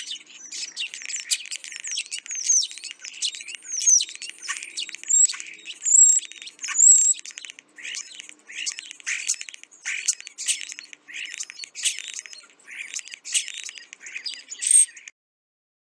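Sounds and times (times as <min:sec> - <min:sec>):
starling chirps and squawks: 0:00.0 - 0:15.1.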